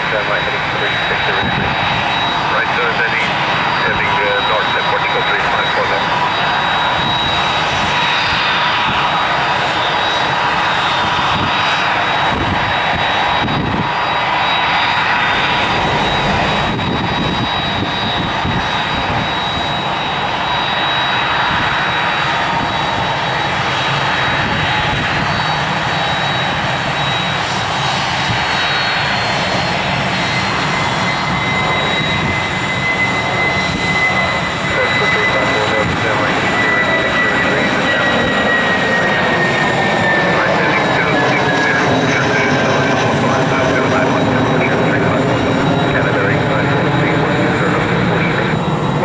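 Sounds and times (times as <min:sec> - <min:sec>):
jet engines running: 0:00.0 - 0:49.0.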